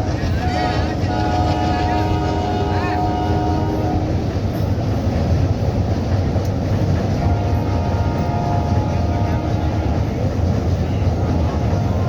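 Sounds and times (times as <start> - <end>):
train rumbling over bridge: 0.0 - 12.0.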